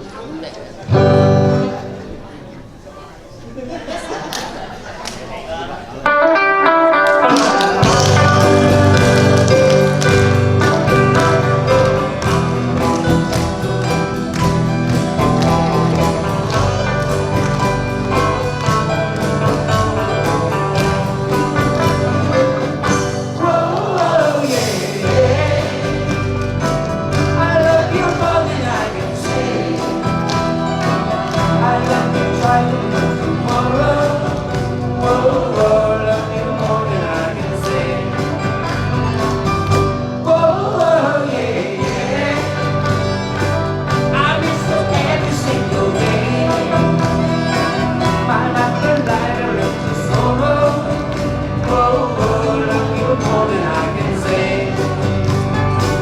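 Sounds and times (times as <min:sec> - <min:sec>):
live band playing pop song: 0:00.9 - 0:02.2, 0:06.0 - 0:56.0
person singing: 0:06.1 - 0:39.5, 0:40.1 - 0:56.0.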